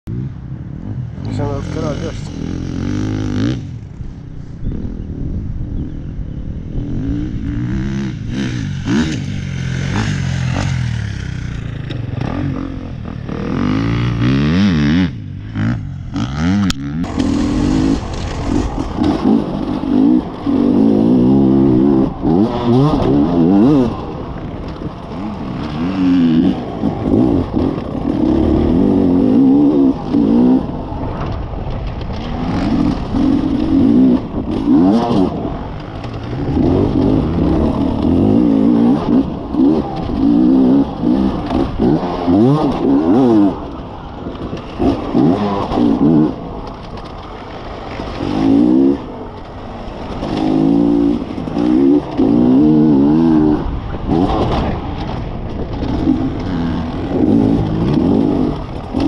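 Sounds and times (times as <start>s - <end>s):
motorcycle engine revving: 0.1s - 4.0s, 4.6s - 59.0s.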